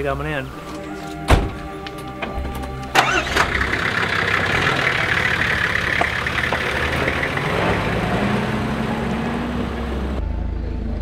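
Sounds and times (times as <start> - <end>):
vehicle engine idling: 2.1 - 11.0.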